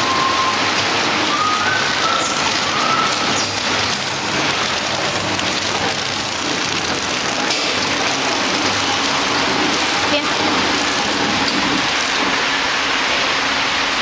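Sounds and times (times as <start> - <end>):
wrapping machine running: 0.0 - 14.0.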